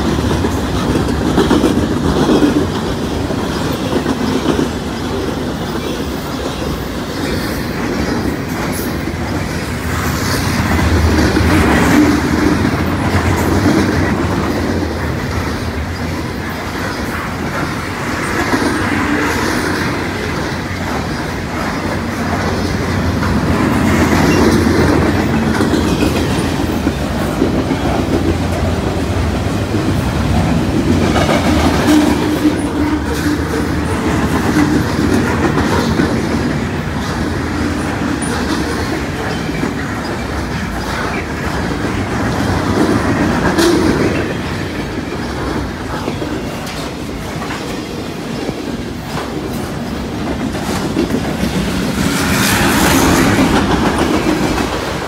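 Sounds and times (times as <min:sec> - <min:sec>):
train wheels rumbling on rail: 0:00.0 - 0:55.0
wheels clicking over rail joints: 0:00.0 - 0:55.0.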